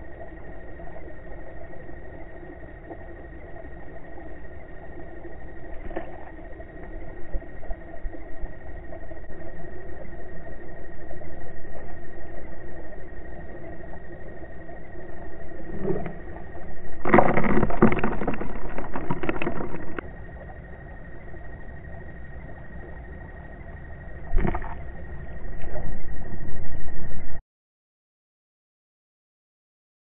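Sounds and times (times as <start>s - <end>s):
underwater mechanical hum: 0.0s - 27.4s.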